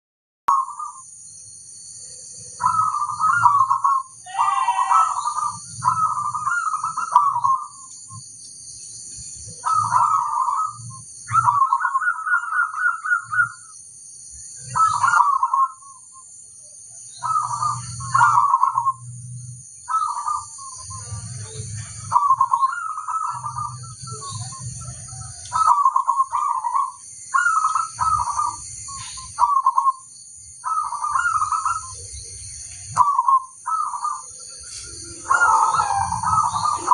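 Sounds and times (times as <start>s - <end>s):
dove trilled cooing: 0.5s - 1.1s, 2.1s - 8.2s, 9.4s - 13.7s, 14.6s - 16.3s, 17.1s - 36.9s.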